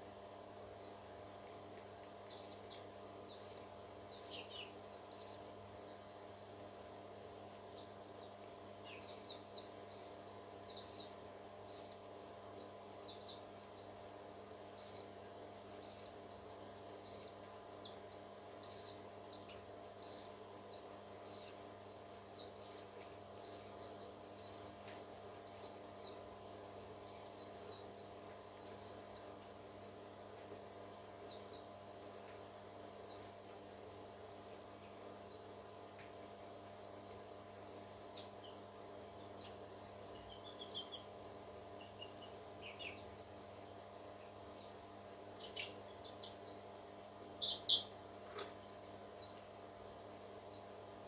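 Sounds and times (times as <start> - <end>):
low electrical hum: 0.0 - 51.0
parrot chicks chirping: 0.5 - 51.0.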